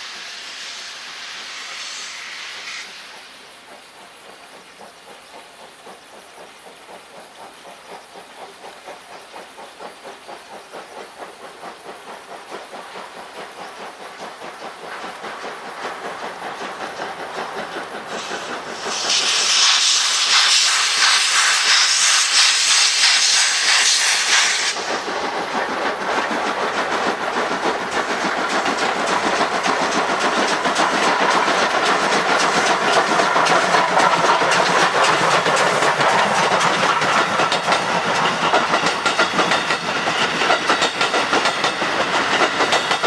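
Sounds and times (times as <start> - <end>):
loud steam hiss: 0.0 - 43.0
steam locomotive chuffing: 0.0 - 43.0.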